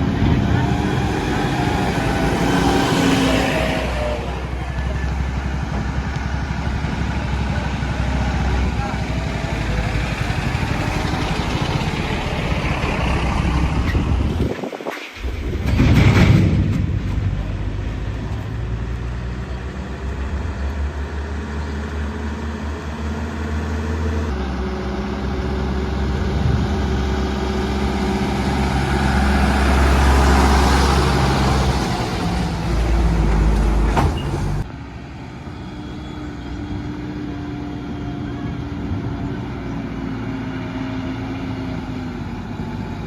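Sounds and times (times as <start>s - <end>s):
heavy diesel engines running: 0.0s - 43.0s.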